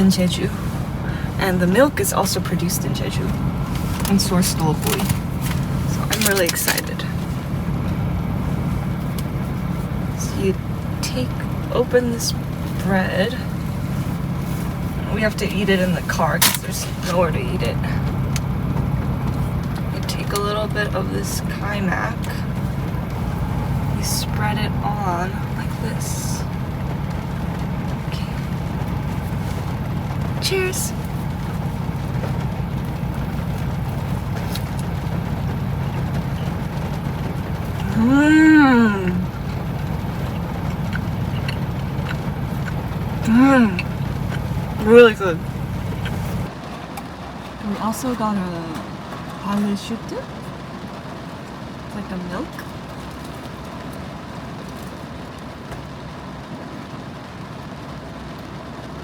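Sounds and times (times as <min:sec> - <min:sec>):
car cabin rumble: 0:00.0 - 0:59.0.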